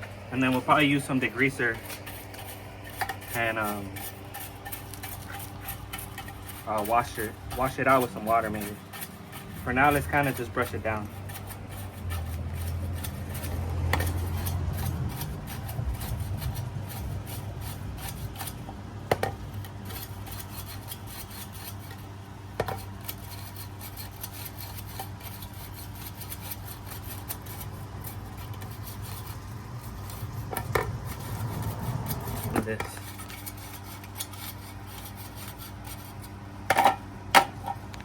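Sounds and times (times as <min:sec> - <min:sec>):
brush scrubbing metal blades: 0:00.0 - 0:38.0.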